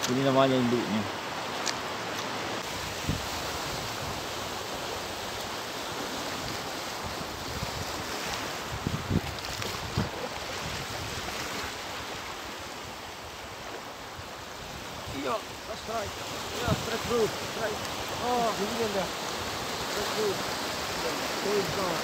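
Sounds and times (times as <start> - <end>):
sea water lapping: 0.6 - 22.0
wind on microphone: 2.6 - 22.0.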